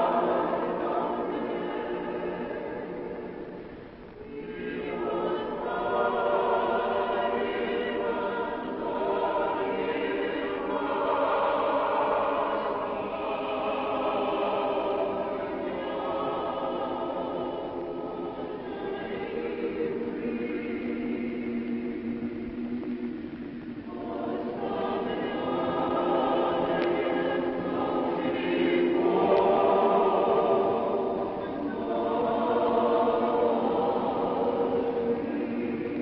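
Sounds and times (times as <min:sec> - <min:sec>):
choir singing long chords: 0:00.0 - 0:36.0.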